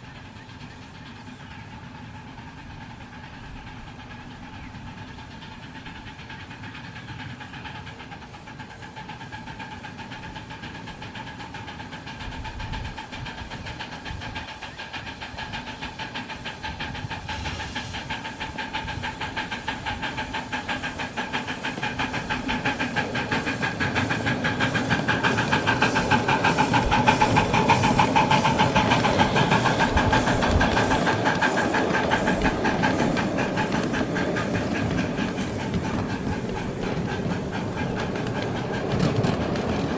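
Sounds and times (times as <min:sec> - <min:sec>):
steam hiss: 0:00.0 - 0:39.9
steam locomotive exhaust chuffs: 0:00.0 - 0:39.9.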